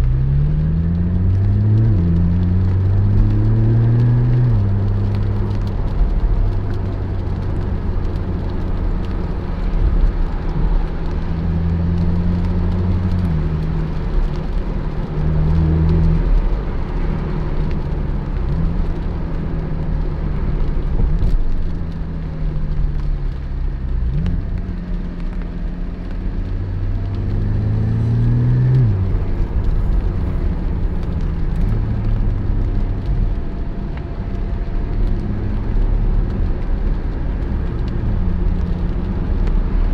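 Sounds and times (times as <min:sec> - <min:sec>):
car engine changing gears: 0:00.0 - 0:39.9
road noise: 0:00.0 - 0:39.9.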